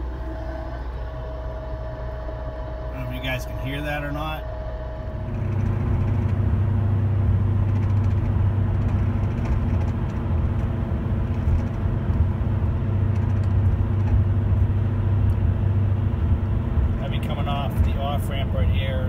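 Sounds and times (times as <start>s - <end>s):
wheel bearing humming: 0.0s - 19.0s
tyre and road noise: 2.6s - 19.0s.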